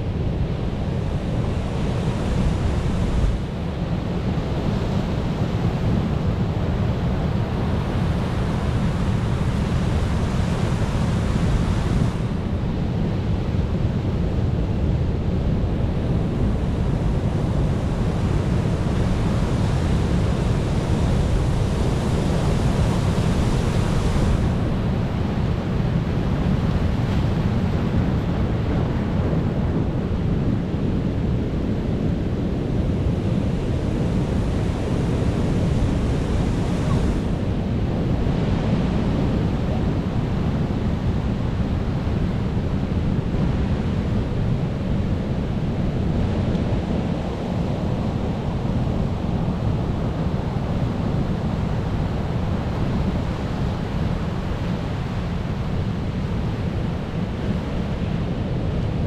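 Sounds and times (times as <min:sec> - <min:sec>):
ocean surf washing: 0:00.0 - 0:59.0
wind rumble on microphone: 0:00.0 - 0:59.0.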